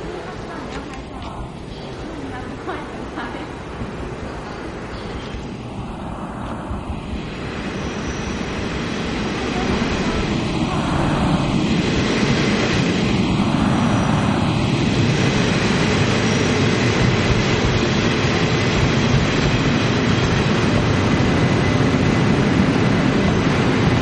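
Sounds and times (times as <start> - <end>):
passenger train passing close by: 0.0 - 24.0.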